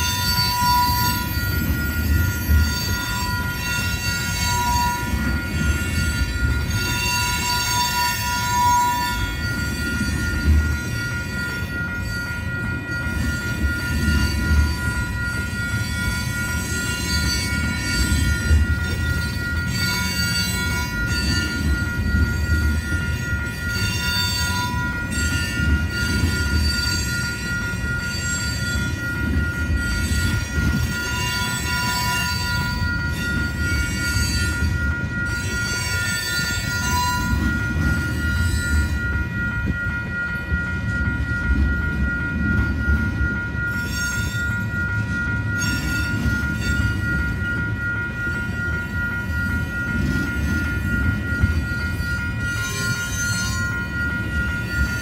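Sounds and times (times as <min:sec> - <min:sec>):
flange squeal: 0:00.0 - 0:55.0
level-crossing bell ringing: 0:00.0 - 0:55.0
train wheels rumbling on rails: 0:00.0 - 0:55.0.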